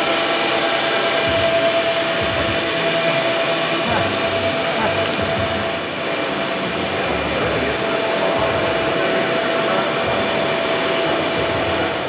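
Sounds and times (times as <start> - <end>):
mid-pitched whine: 0.0 - 12.0
rushing machine noise: 0.0 - 12.0.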